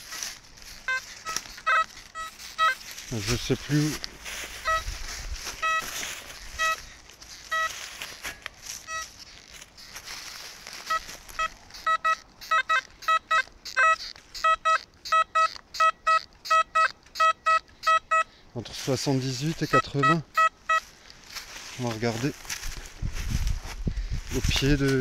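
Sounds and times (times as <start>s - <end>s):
metal detector beeping: 0.0s - 18.4s, 19.3s - 22.2s.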